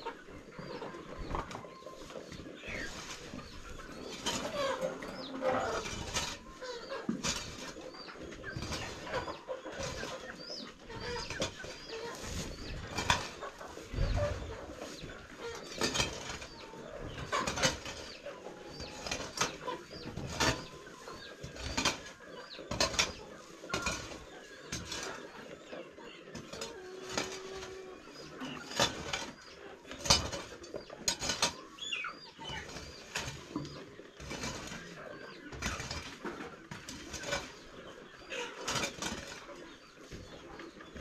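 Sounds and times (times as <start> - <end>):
chickens calling: 0.0 - 41.0.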